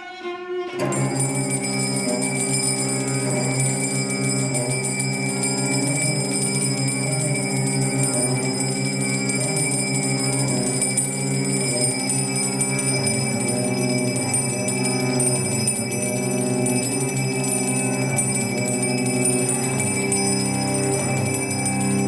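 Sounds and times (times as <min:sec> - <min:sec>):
finger cymbals ringing: 0:00.8 - 0:22.0.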